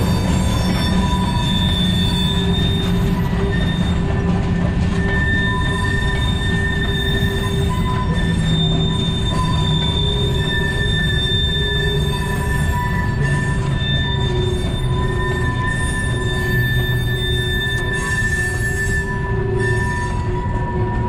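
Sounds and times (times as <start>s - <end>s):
rumble of train wheels on rail: 0.0s - 21.0s
wheels squealing: 0.0s - 21.0s.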